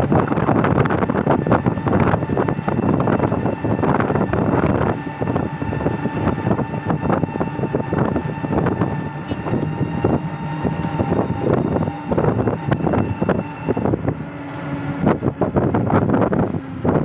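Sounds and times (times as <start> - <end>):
vehicle engine and road noise: 0.0 - 17.0
wind buffeting microphone: 0.0 - 17.0.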